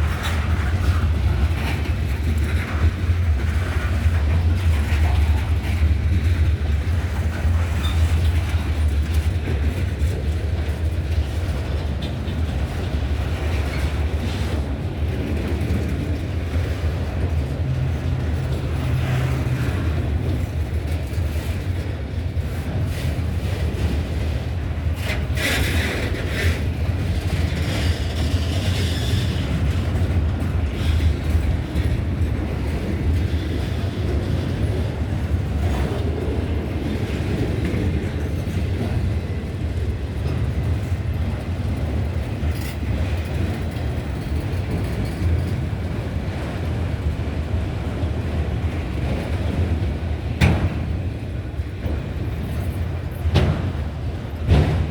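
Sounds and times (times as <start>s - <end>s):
freight cars rumbling and clattering: 0.0s - 54.9s.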